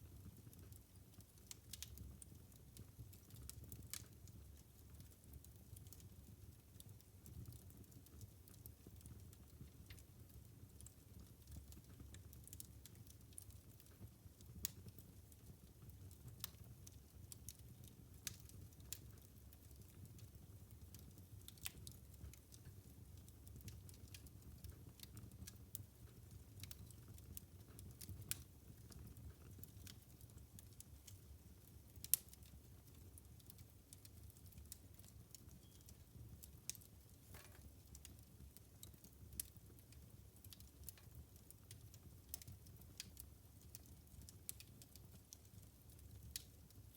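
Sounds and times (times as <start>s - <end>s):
wood fire crackling: 0.1s - 46.9s.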